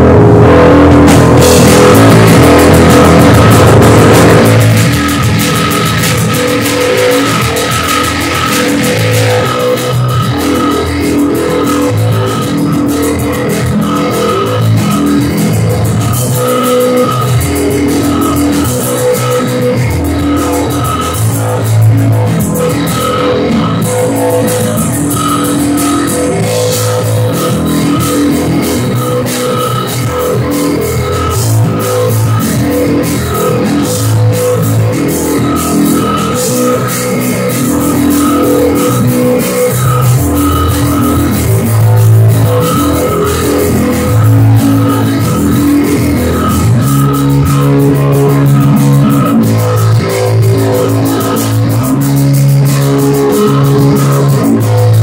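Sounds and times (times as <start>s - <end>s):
drum kit: 0.0s - 55.0s
electric bass: 0.0s - 55.0s
electric guitar riff: 0.0s - 55.0s.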